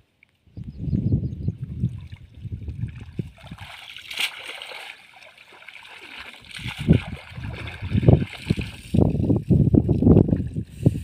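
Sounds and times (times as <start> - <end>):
water splashing and sloshing: 1.7 - 10.8.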